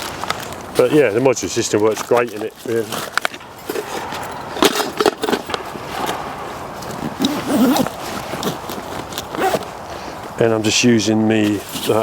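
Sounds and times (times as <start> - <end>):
camping kit rustling and clicking: 0.0 - 10.5, 11.2 - 12.0.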